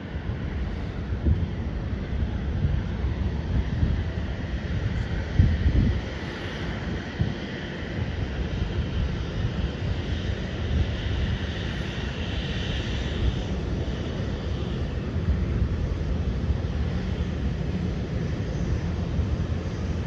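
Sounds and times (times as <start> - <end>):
jet engines rumbling with whine: 0.0 - 20.0.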